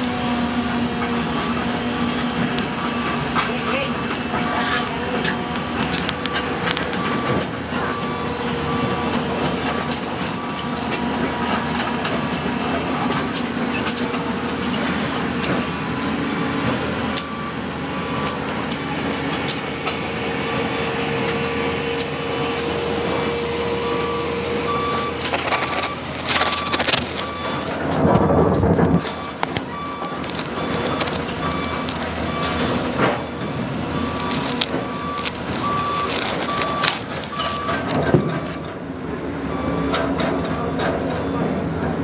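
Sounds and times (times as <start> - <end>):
rumbling noise: 0.0 - 38.4
warning alarm beeping: 0.0 - 38.6
excavator diesel engine running: 0.0 - 42.0.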